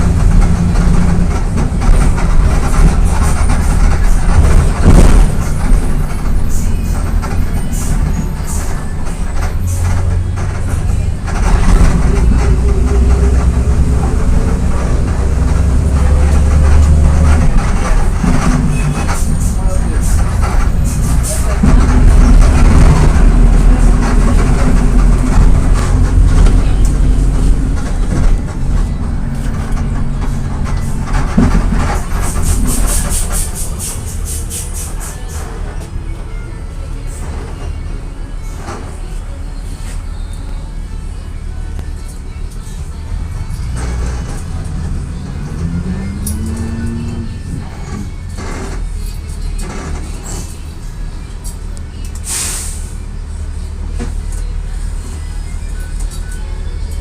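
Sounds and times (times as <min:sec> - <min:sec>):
bus diesel engine under load: 0:00.0 - 0:57.0.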